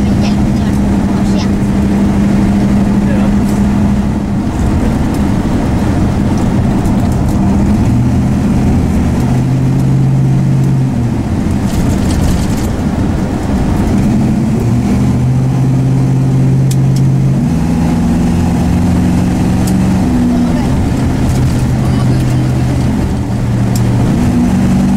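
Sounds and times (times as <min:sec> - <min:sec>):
car engine running: 0:00.0 - 0:24.9
road noise: 0:00.0 - 0:24.9.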